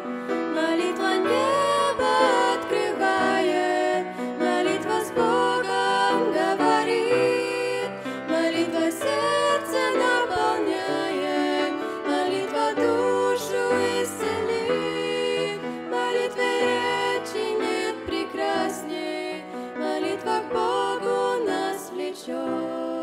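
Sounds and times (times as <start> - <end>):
slow gentle hymn music: 0.0 - 23.0.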